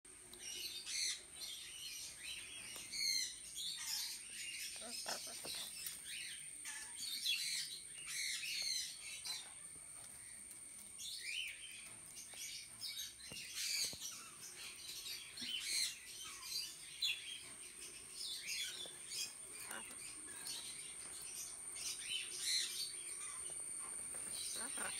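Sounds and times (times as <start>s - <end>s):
birds chirping: 0.1s - 24.9s.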